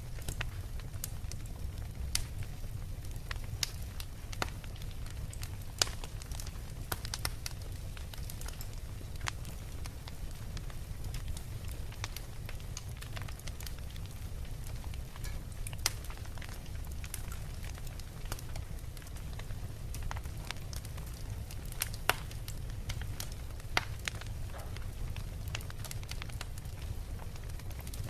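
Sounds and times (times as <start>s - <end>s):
bonfire crackling and popping: 0.0s - 28.0s.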